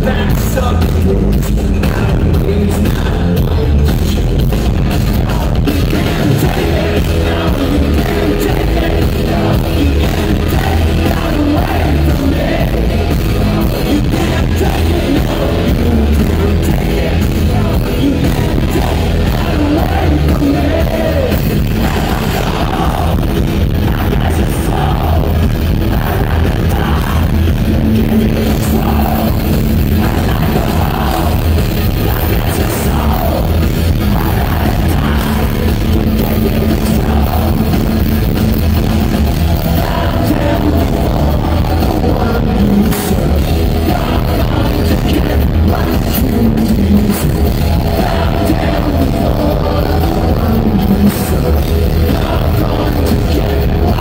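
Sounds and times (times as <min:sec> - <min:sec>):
lead singer vocals: 0:00.0 - 0:54.0
live rock band playing: 0:00.0 - 0:54.0.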